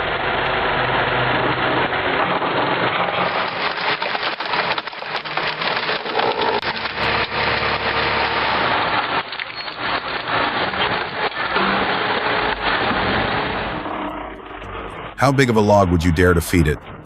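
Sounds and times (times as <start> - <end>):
wood chipper chipping logs: 0.0 - 15.2.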